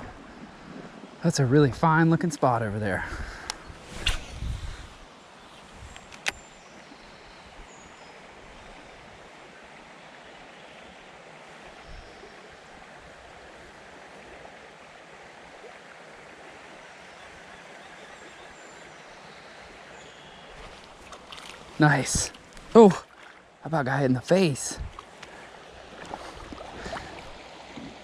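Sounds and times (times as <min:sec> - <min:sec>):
flowing creek water: 0:00.0 - 0:28.0.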